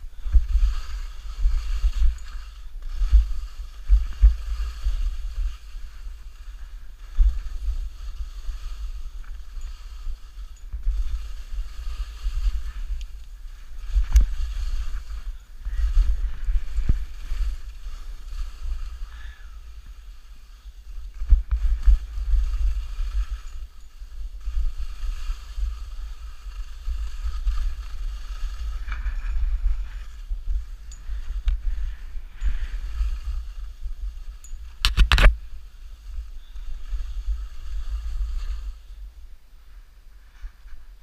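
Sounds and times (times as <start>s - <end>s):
skis scraping over snow: 0.0s - 41.0s
wind rumbling on microphone: 0.0s - 41.0s.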